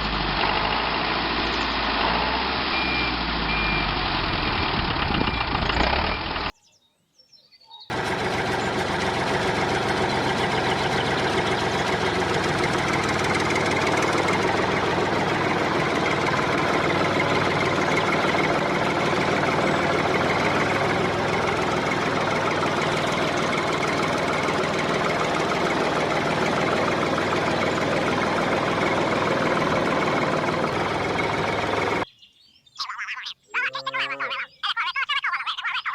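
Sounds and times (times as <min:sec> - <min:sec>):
small engine rattling: 0:00.0 - 0:06.5, 0:07.9 - 0:32.0.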